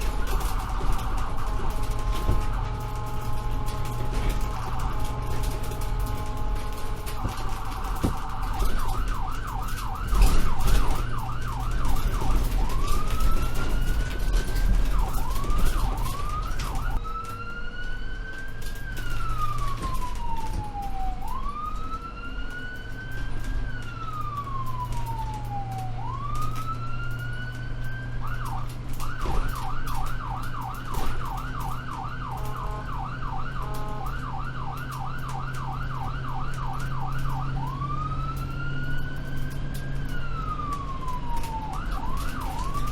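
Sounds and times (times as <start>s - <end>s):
ambulance siren: 0.0s - 42.9s
low vehicle hum: 0.0s - 42.9s.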